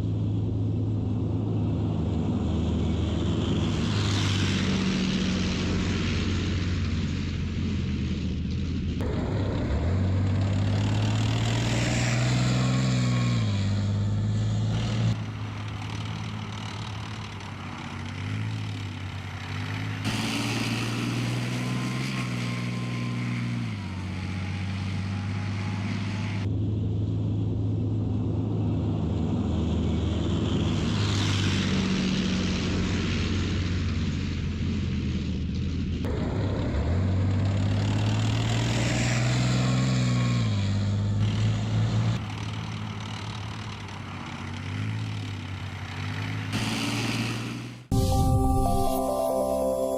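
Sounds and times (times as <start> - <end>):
tank diesel engine revving: 0.0 - 26.5, 28.5 - 47.9.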